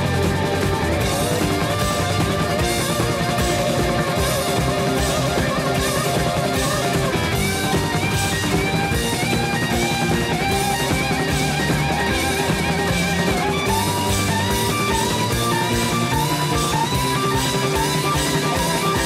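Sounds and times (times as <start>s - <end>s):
rock band playing: 0.0s - 19.0s
sliding electric guitar notes: 0.0s - 19.0s.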